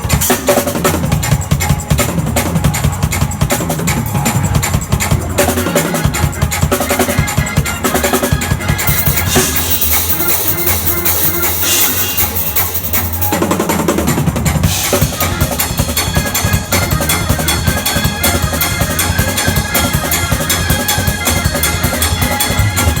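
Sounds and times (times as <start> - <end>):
drum kit played fast: 0.0 - 23.0
steady music: 0.0 - 23.0.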